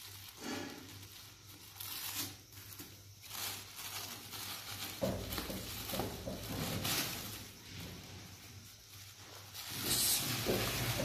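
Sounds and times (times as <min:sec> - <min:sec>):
plastic sheeting crinkling: 0:00.0 - 0:11.0.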